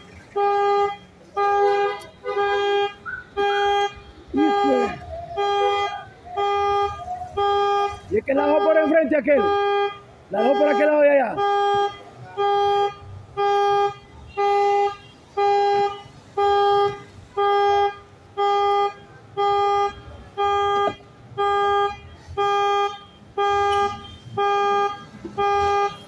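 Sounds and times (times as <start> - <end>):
car alarm honking horn: 0.1 - 26.0.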